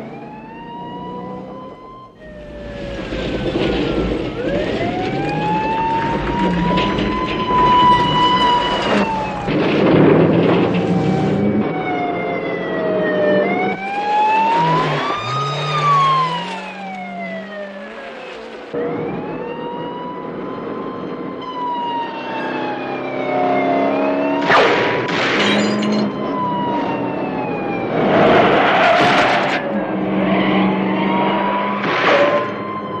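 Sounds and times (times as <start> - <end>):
police siren wailing: 0.0 - 33.0
road noise: 0.0 - 33.0.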